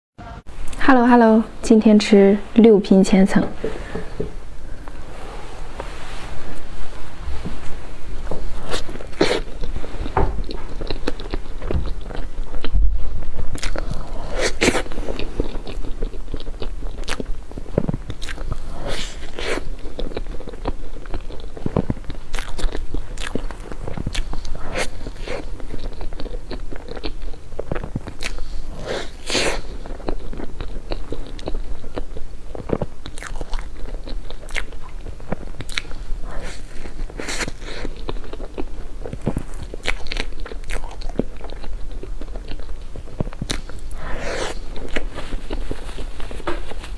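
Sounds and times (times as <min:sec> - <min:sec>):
person chewing cake: 0:07.2 - 0:46.9.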